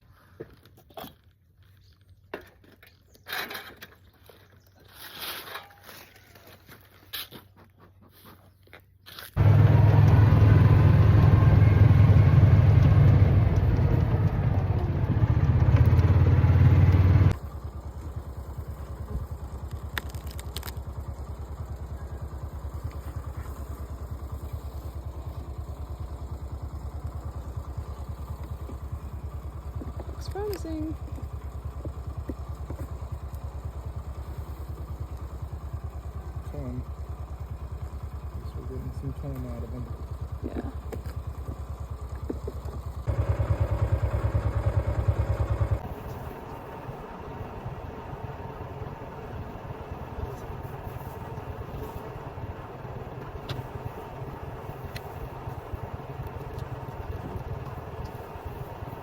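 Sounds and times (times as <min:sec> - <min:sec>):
motor running: 0:09.4 - 0:59.0.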